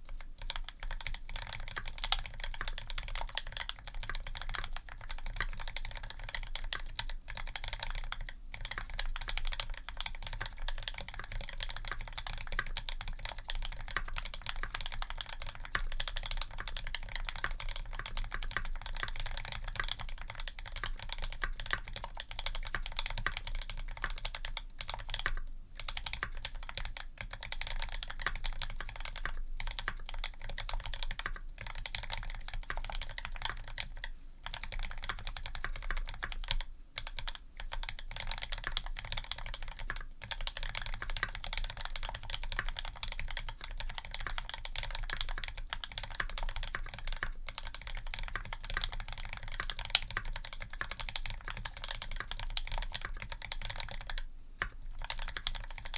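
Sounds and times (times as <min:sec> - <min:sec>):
typing on mechanical keyboard: 0:00.0 - 0:55.9.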